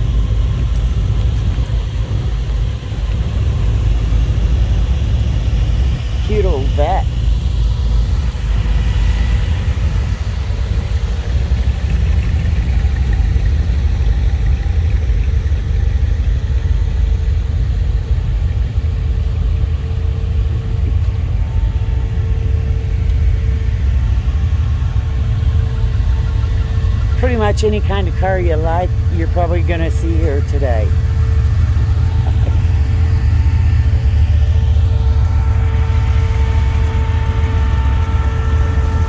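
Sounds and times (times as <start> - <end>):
car engines rumbling: 0.0 - 39.0.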